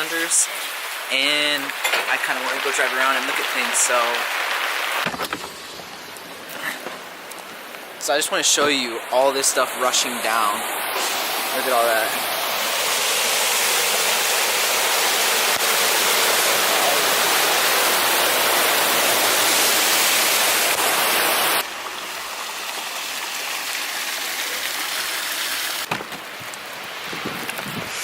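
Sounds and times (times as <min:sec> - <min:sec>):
rain hiss: 0:00.0 - 0:28.0
storm runoff rushing: 0:00.0 - 0:28.0.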